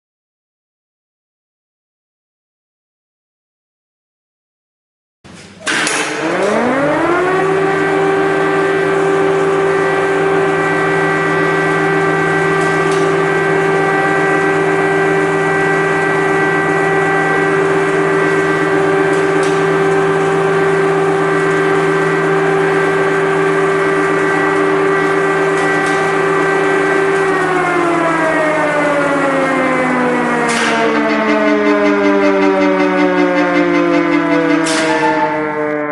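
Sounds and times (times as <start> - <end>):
air-raid siren wailing: 5.7 - 35.9.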